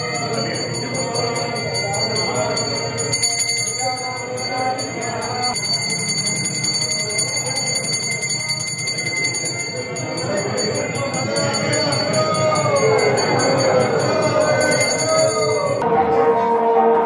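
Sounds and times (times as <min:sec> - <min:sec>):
metal bell rung rapidly: 0:00.0 - 0:15.8.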